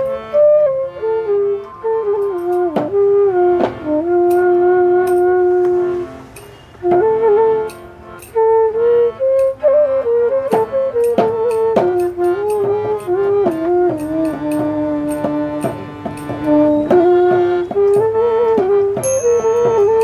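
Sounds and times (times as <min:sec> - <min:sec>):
flute melody: 0:00.0 - 0:20.0
light percussive taps: 0:01.5 - 0:20.0.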